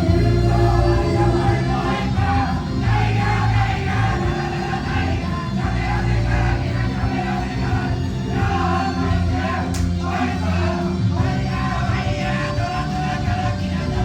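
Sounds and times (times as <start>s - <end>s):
live pop-rock song with singing: 0.0s - 14.0s.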